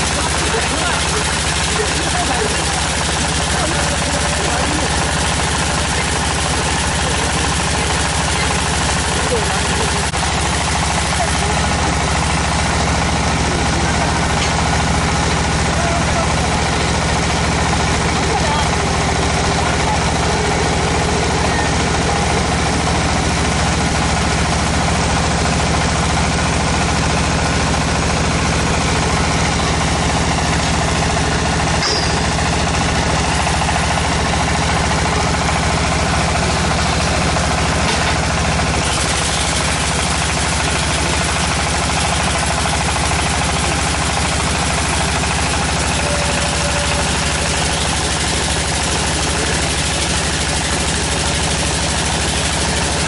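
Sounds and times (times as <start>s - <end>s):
tractor engine throbbing: 0.0s - 53.0s.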